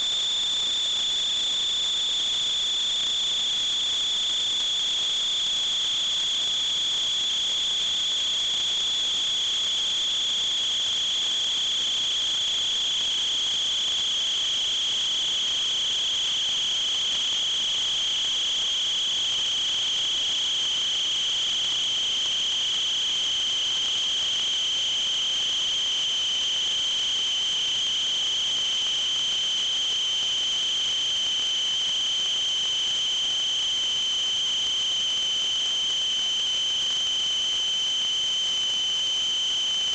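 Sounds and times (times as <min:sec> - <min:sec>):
high-pitched electronic whine: 0:00.0 - 0:39.9.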